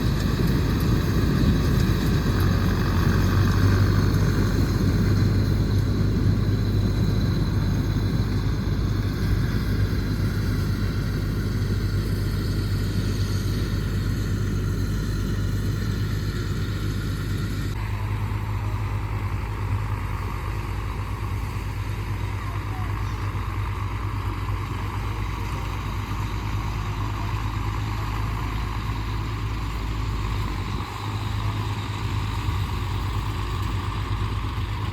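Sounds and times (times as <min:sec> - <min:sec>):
combine harvester mechanical noise: 0:00.0 - 0:34.9
diesel engine humming: 0:00.0 - 0:34.9.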